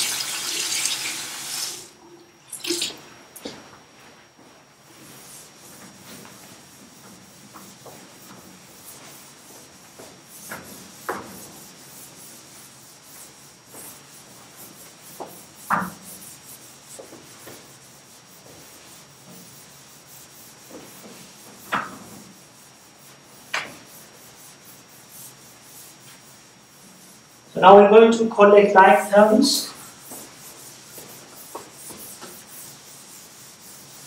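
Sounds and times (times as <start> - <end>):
eraser scraping chalkboard: 5.0 - 34.0.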